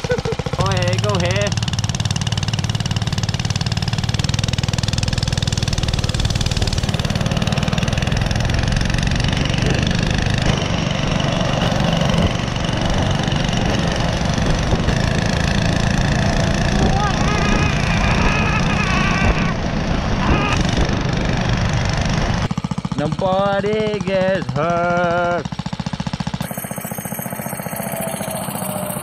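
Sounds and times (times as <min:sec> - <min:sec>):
small gasoline engine running: 0:00.0 - 0:29.0.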